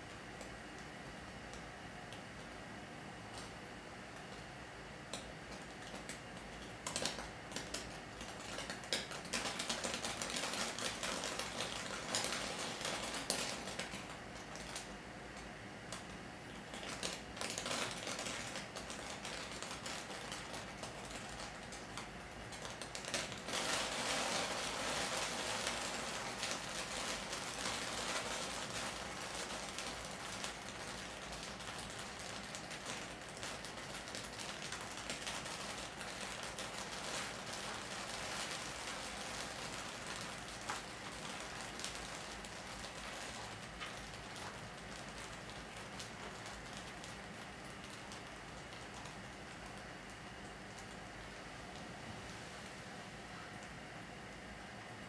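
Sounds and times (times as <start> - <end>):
sparks crackling: 5.2 - 49.8.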